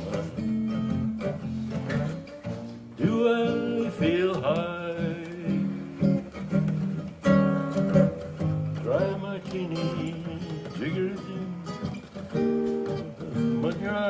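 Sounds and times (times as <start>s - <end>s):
acoustic guitar plucking: 0.0s - 14.0s.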